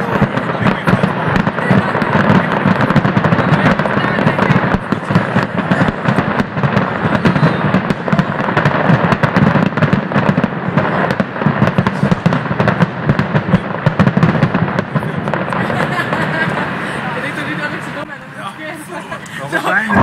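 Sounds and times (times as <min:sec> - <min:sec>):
fireworks bursts and crackling: 0:00.0 - 0:20.0.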